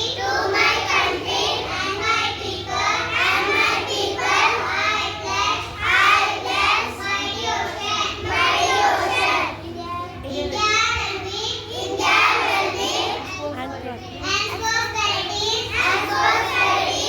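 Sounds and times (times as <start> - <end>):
children singing: 0.0 - 9.7, 11.7 - 13.3, 14.6 - 17.0.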